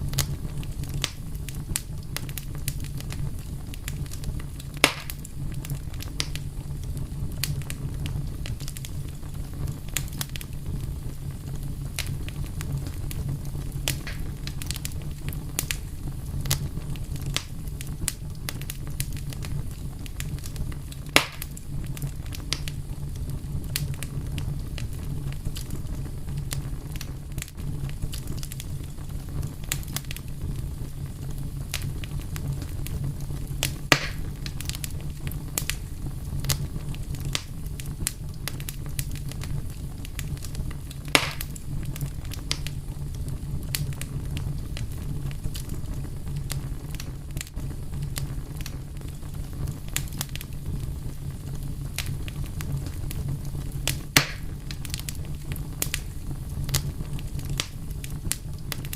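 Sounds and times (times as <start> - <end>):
low fire rumble: 0.0 - 58.9
wood fire crackles and pops: 0.0 - 58.9.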